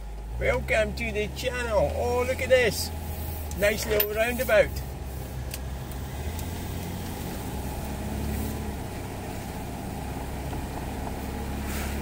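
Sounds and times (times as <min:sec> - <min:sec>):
car engine running: 0:00.0 - 0:12.0
low road rumble: 0:00.0 - 0:12.0.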